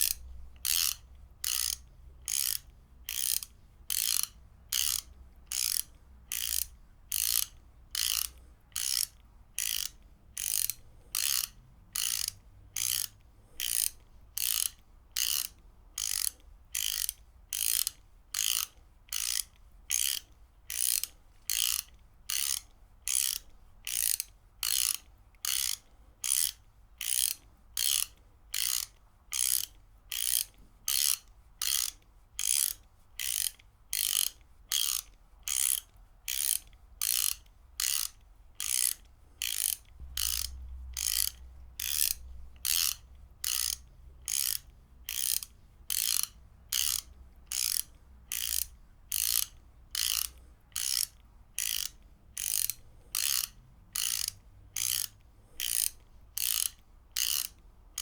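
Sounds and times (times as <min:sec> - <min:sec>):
ratchet wrench clicking: 0:00.0 - 0:58.0.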